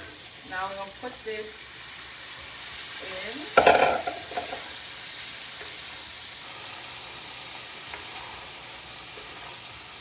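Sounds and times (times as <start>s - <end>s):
soup pot sizzling: 0.0s - 10.0s.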